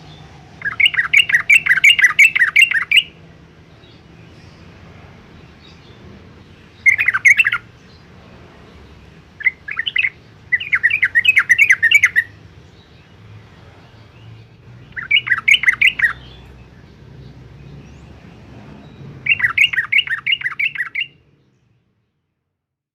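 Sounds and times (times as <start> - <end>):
bulbul singing: 0.0 - 4.8, 5.4 - 8.1, 9.0 - 18.2, 18.8 - 21.6.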